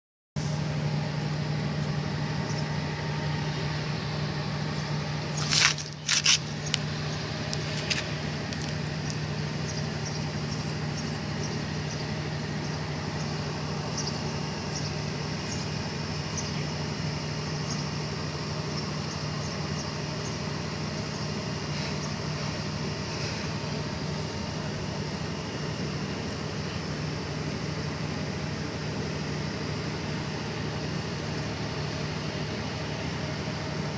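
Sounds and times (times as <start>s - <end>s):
steady mechanical hum: 0.4s - 33.9s.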